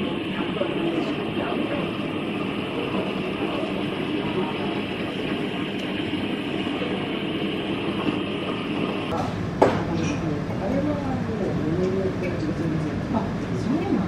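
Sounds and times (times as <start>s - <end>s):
restaurant background rumble: 0.0s - 14.0s.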